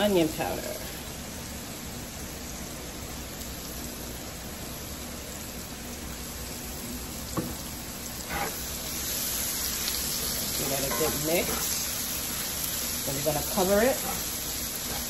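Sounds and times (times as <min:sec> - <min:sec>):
potatoes and onions sizzling in oil: 0:00.0 - 0:15.0.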